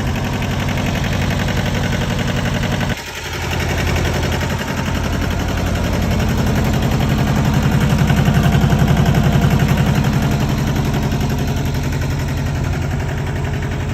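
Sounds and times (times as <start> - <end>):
tractor diesel engine pulsing: 0.0 - 13.9.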